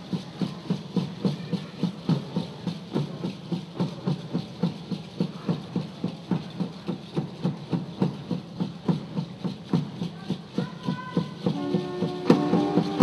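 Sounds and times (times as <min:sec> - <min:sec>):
drums playing steady beat: 0:00.0 - 0:13.0.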